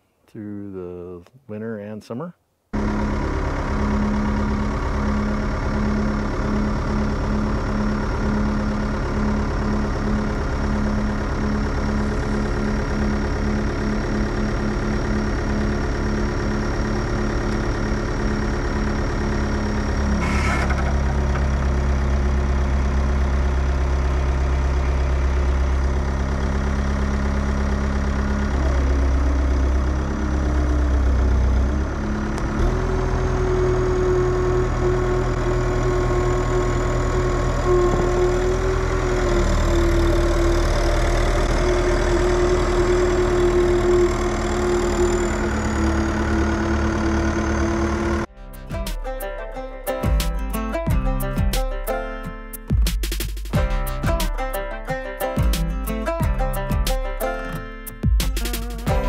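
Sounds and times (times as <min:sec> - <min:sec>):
diesel engine running: 0:02.7 - 0:59.0.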